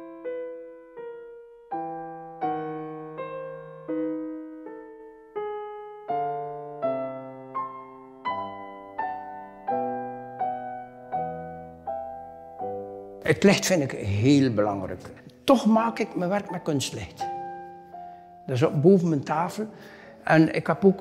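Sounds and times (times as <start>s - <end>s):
slow gentle piano: 0.0s - 21.0s.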